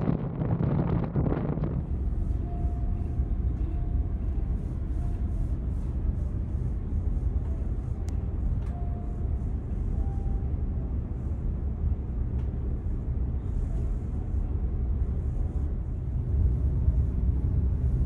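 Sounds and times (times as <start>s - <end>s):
ship engine rumble: 0.0s - 18.0s.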